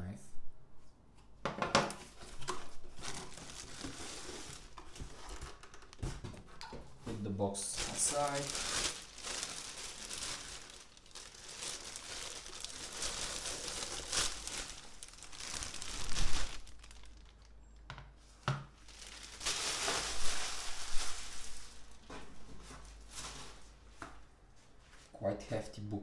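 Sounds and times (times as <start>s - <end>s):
packaging crinkling and rustling: 1.8s - 24.2s.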